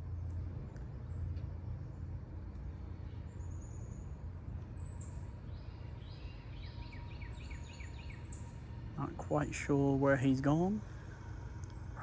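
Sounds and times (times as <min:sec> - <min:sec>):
birds singing: 0:00.0 - 0:11.8
low outdoor rumble: 0:00.0 - 0:12.0.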